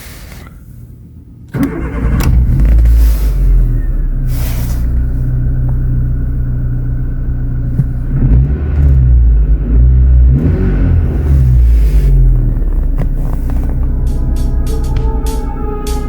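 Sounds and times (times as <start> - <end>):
car engine running and revving: 2.1 - 16.0.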